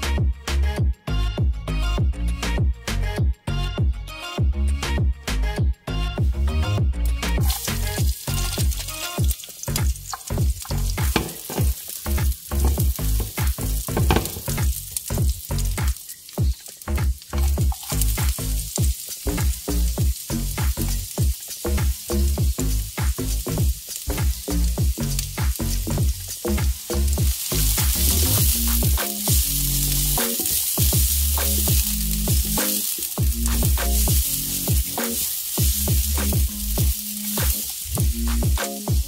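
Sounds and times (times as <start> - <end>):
garlic sizzling in oil: 7.0 - 39.0
crackling pops: 7.4 - 39.0.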